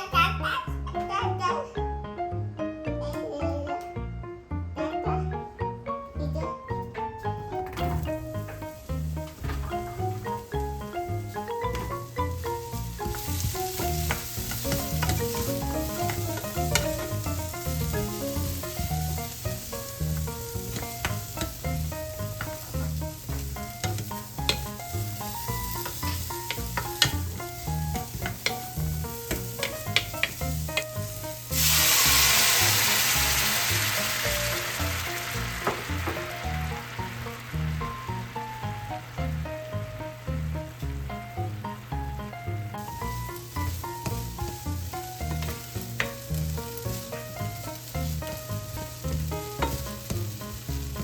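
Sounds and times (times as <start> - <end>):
background music with steady beat: 0.0 - 51.0
food sizzling in hot pan: 7.3 - 51.0.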